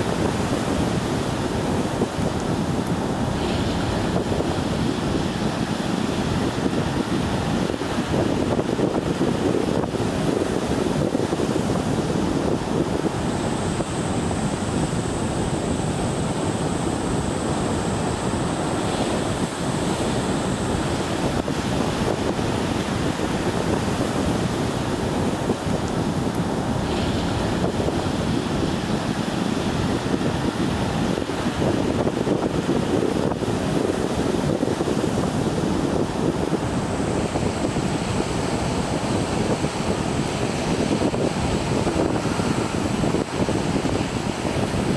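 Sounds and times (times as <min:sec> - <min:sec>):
surf on rocky shoreline: 0:00.0 - 0:44.9
wind buffeting microphone: 0:00.0 - 0:44.9.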